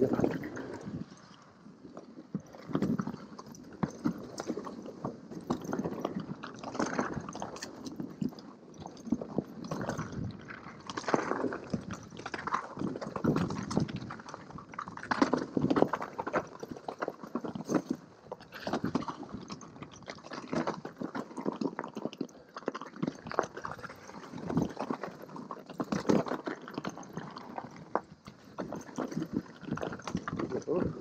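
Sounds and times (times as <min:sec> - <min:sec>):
bike clattering and rattling: 0:02.4 - 0:22.1, 0:23.0 - 0:30.8.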